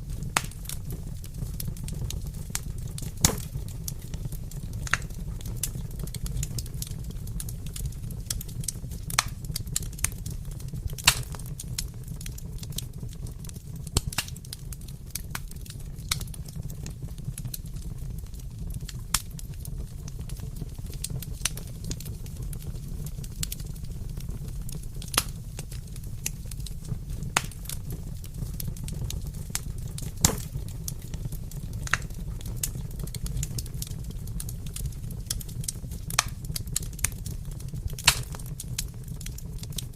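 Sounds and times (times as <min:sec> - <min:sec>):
wood fire crackling: 0:00.0 - 0:39.9
sharp pops of fire: 0:00.1 - 0:39.9.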